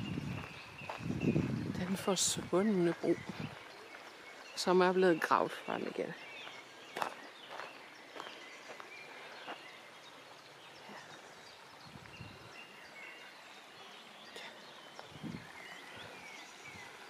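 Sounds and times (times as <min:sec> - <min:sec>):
river water running over stones: 0:00.0 - 0:17.0.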